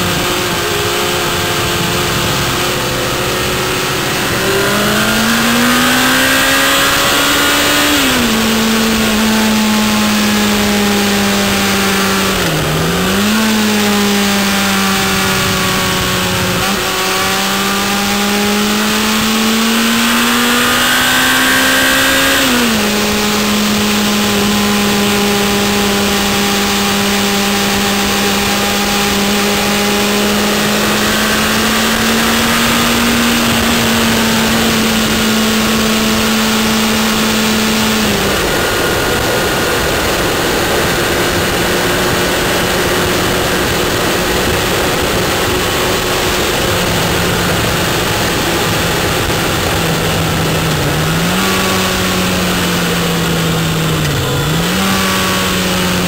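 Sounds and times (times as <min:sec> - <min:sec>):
car engine changing gear: 0:00.0 - 0:56.0.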